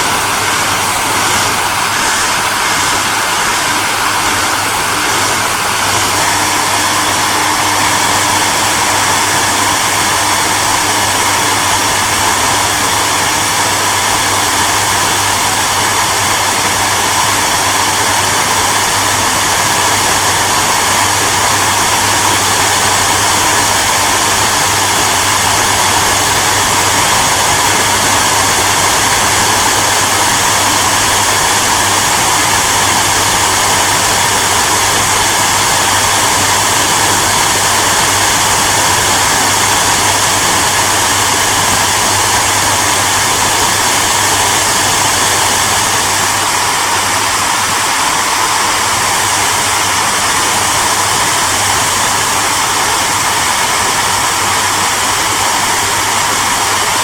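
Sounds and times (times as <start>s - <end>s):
hairdryer blowing: 0.0s - 57.0s.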